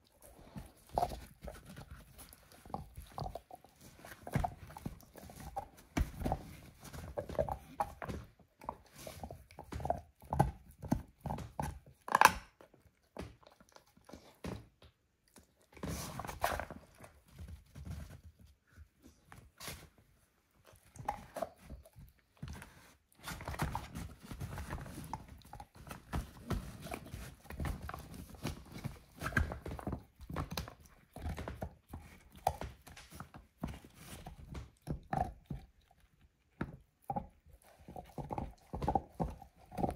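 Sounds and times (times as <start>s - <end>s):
dog crunching a bone: 0.0s - 18.4s, 20.6s - 39.9s.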